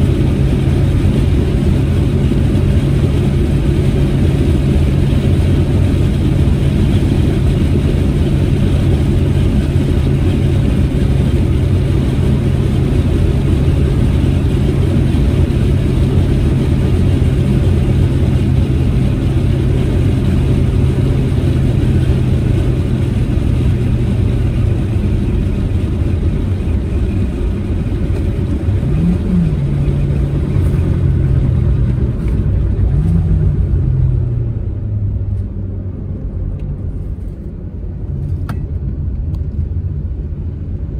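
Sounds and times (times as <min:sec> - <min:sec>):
car engine cruising: 0:00.0 - 0:40.9
tyre and road noise: 0:00.0 - 0:40.9.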